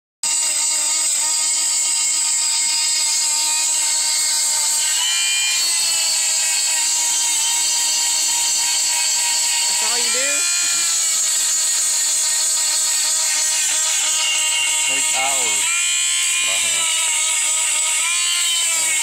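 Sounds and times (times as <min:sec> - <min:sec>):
chainsaw sharpener whining: 0:00.2 - 0:19.0.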